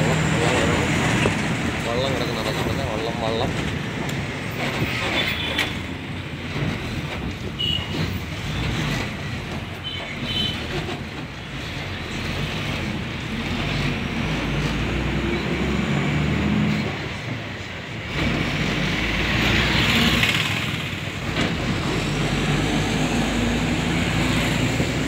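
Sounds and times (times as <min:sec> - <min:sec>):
vehicle rumble with road noise: 0:00.0 - 0:25.0.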